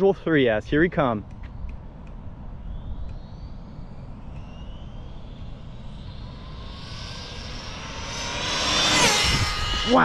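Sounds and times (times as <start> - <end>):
electric motor high whine: 1.4 - 10.0.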